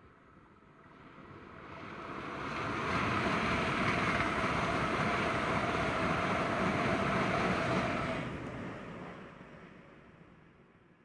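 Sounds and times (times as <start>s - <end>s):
high-speed train passing: 0.7s - 10.7s.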